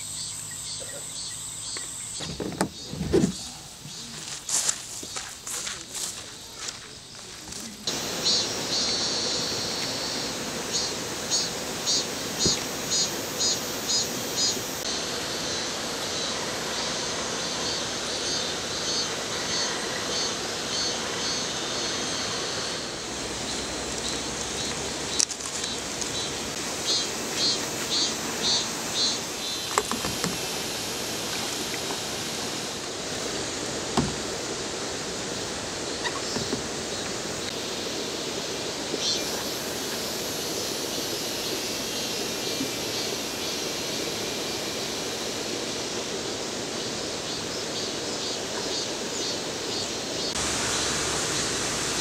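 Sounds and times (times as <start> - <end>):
river water flowing: 7.8 - 52.0.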